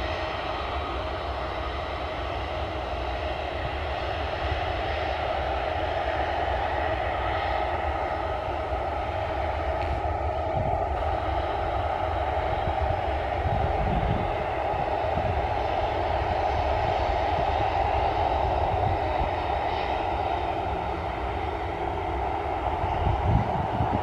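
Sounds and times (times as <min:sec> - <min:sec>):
jet engines taxiing: 0:00.0 - 0:24.0.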